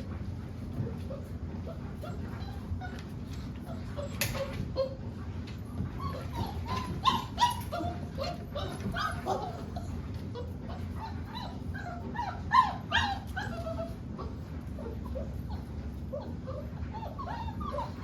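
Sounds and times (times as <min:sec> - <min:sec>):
puppies whining and yipping: 0:00.6 - 0:18.0
puppy yelps: 0:01.0 - 0:05.0, 0:06.0 - 0:18.0.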